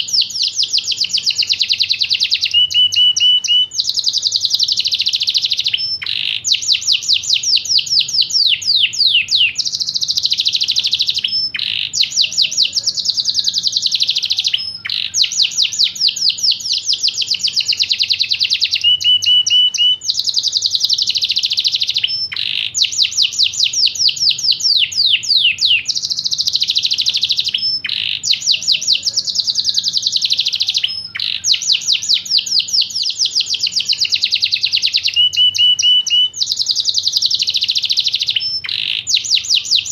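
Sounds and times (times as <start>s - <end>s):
canary trilling: 0.0s - 39.9s
canary whistled notes: 0.0s - 39.9s.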